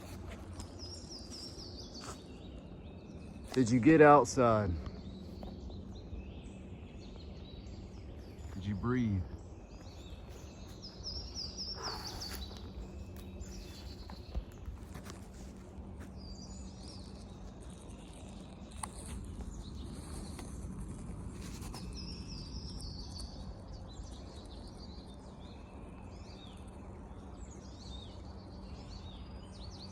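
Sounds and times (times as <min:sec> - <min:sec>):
birds singing and chirping: 0:00.0 - 0:29.9.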